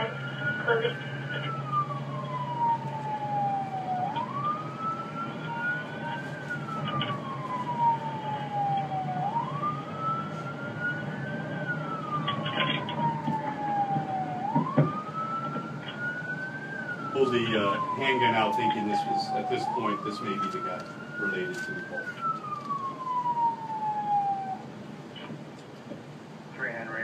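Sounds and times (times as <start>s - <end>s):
police siren wailing: 0.0s - 25.3s
low steady hum: 0.0s - 27.0s.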